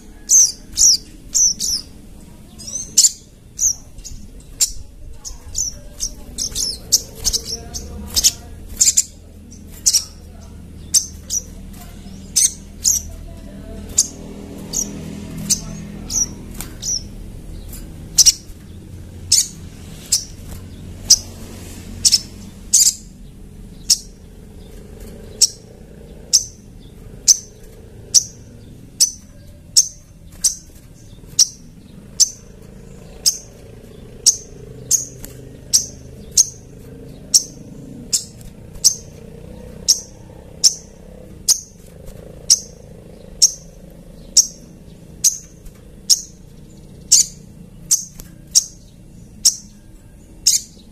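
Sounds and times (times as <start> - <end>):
sunbird chirping: 0.0 - 50.9.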